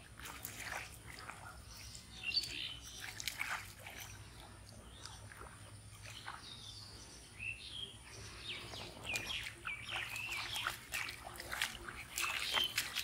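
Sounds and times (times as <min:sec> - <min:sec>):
birds chirping: 0:00.8 - 0:13.0.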